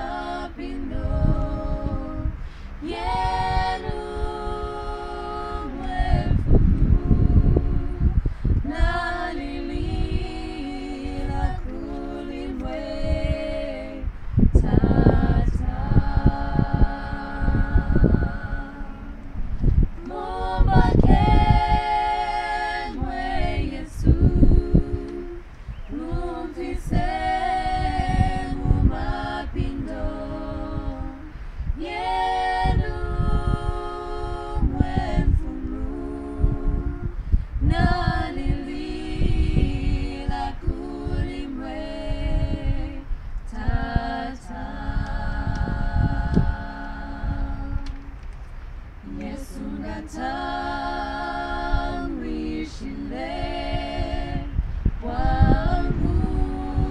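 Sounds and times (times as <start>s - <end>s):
women singing a cappella hymn: 0.0s - 56.9s.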